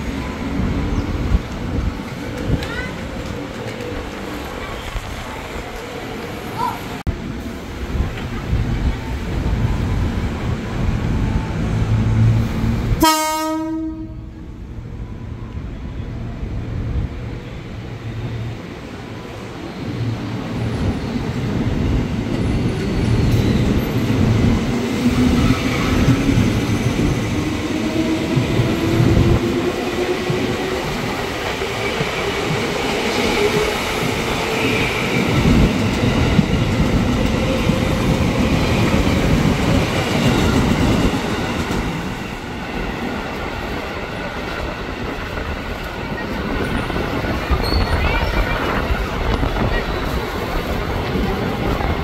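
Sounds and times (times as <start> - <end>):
train approaching: 0.0 - 52.0.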